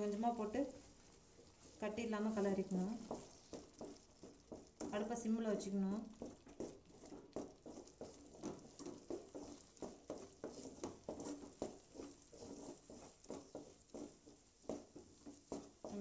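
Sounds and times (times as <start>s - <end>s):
spatula scraping a pot: 0.7s - 5.2s, 6.1s - 16.0s.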